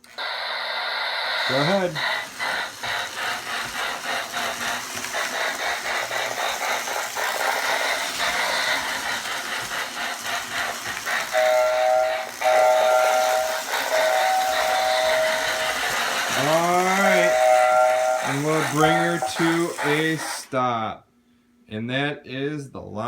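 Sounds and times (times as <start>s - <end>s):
toy train steam chuffing: 0.0s - 20.8s.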